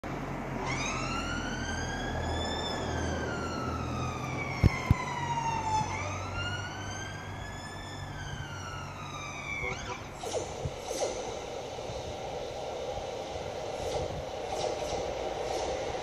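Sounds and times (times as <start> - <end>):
siren wailing: 0.5 - 16.0.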